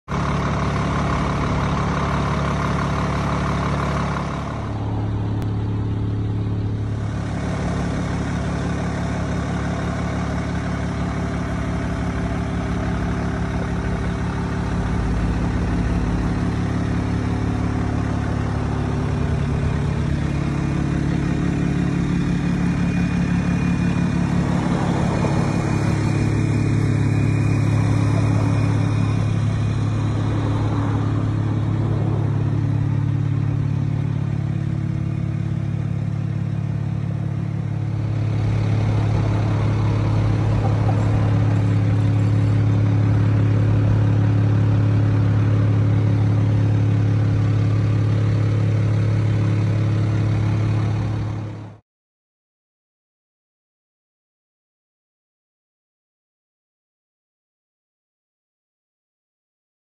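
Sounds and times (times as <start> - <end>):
car engine idling: 0.1 - 51.8.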